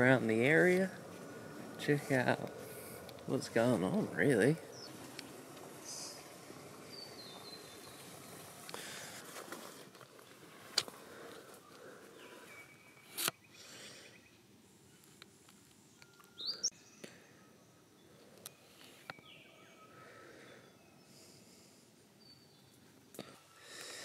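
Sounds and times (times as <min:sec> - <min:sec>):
bird chirps: 0:00.0 - 0:08.7, 0:11.5 - 0:15.2, 0:15.8 - 0:23.7.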